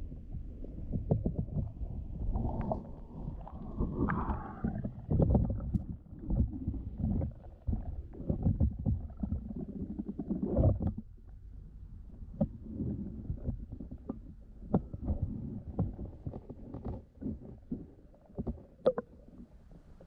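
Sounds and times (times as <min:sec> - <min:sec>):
muffled underwater rumbling: 0:00.0 - 0:20.0.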